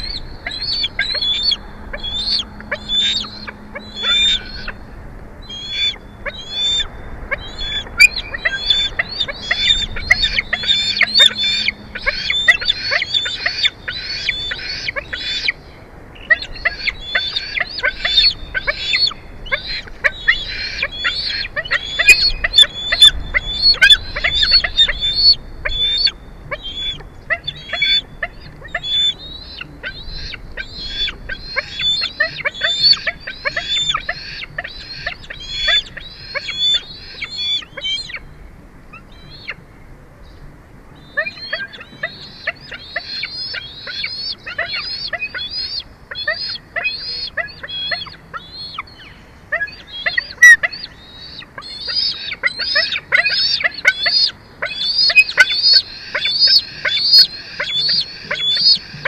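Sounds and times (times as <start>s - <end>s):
eagle high squeaky chirps: 0.0s - 15.6s, 16.2s - 38.4s, 41.0s - 59.0s.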